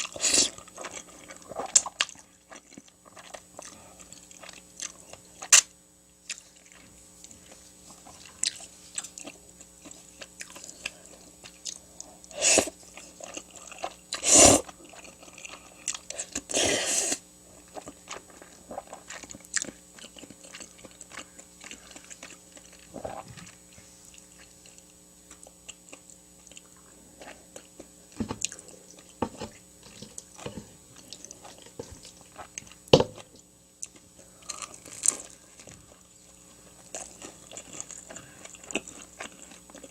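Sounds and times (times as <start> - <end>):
chewing with wet clicks: 0.0 - 7.4, 8.0 - 12.1, 12.9 - 16.5, 17.6 - 29.2, 29.8 - 39.9.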